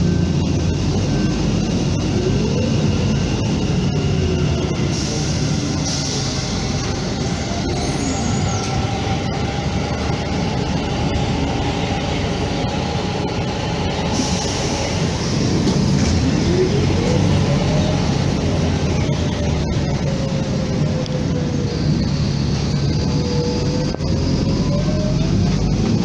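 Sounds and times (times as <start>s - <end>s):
train rumbling: 0.0s - 26.0s
train whine rising in pitch: 0.0s - 26.0s.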